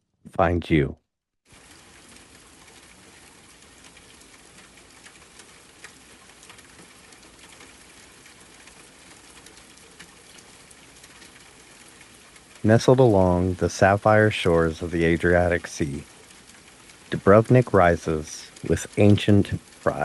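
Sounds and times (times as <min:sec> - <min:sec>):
steady rain falling: 0:01.5 - 0:20.0
droplet ticks: 0:03.5 - 0:20.0.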